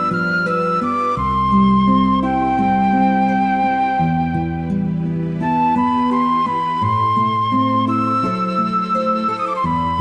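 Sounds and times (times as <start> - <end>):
gentle flute-like melody: 0.0 - 10.0.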